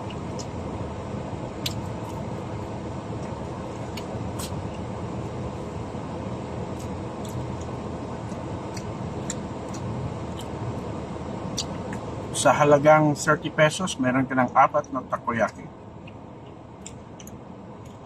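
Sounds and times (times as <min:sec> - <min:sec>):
minivan cabin rumble: 0:00.0 - 0:18.0.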